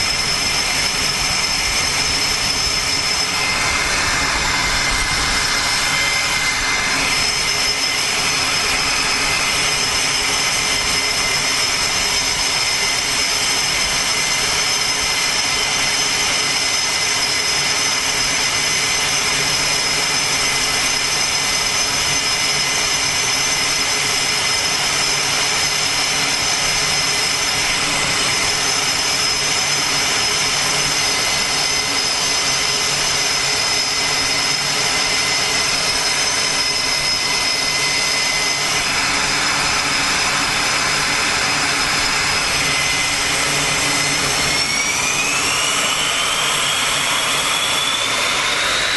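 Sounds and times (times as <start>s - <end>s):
high-pitched whine: 0.0s - 48.9s
jet engines rushing: 0.0s - 48.9s.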